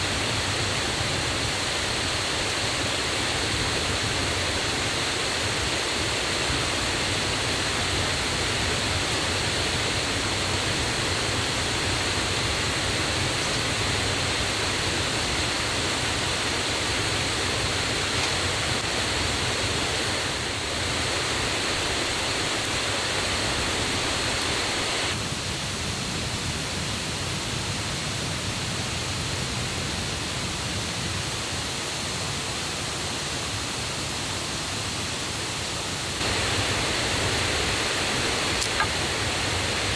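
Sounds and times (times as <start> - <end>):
waterfall and river rushing: 0.0 - 25.5, 31.5 - 39.9.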